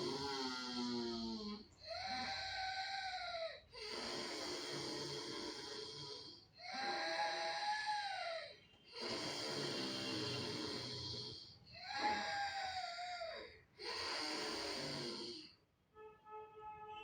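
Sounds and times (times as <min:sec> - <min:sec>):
woman breathing through throat: 0:00.0 - 0:15.6.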